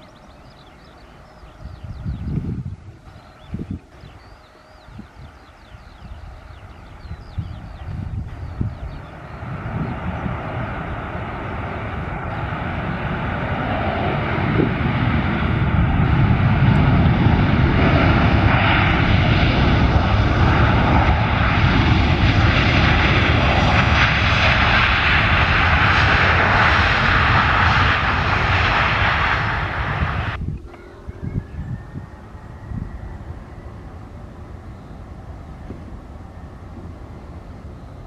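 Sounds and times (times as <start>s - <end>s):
jet engines spooling up: 0.0s - 38.0s.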